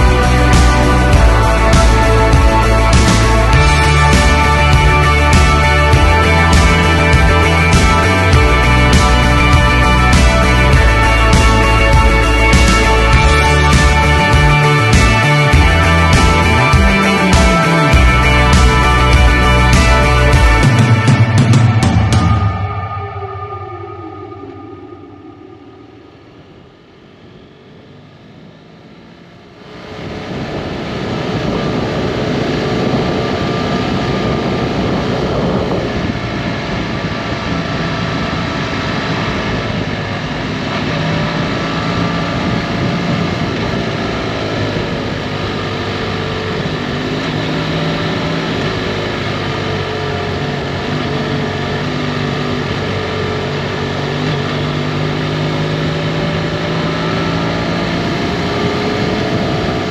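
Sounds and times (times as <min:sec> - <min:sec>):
wind and road noise: 0:00.0 - 0:22.4, 0:24.4 - 0:59.9
motorcycle engine: 0:00.0 - 0:59.9.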